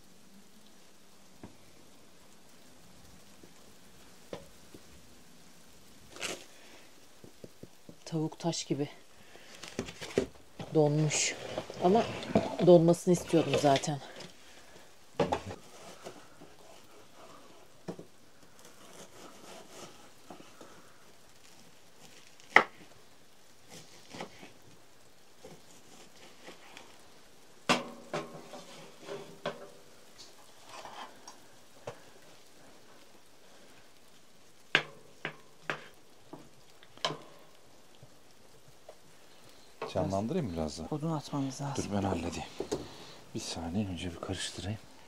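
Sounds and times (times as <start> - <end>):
low steady hiss: 0.0 - 45.0.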